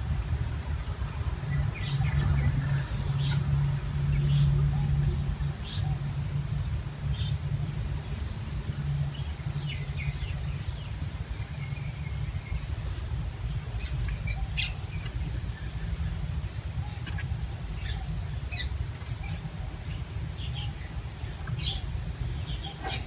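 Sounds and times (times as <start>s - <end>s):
birds chirping: 0.8s - 23.0s.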